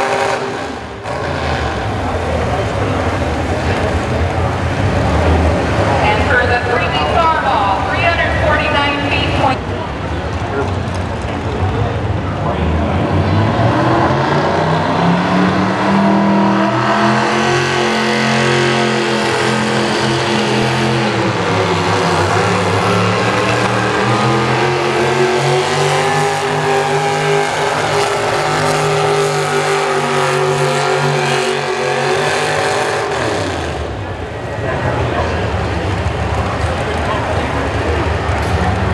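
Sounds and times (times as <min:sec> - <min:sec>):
tractor engine running at high revs: 0:00.0 - 0:38.9.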